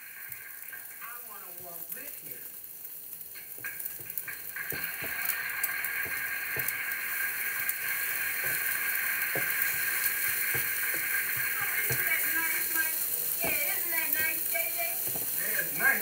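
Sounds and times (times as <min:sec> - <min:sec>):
eggs sizzling on griddle: 0:00.0 - 0:16.0
spatula scraping and tapping griddle: 0:03.1 - 0:16.0.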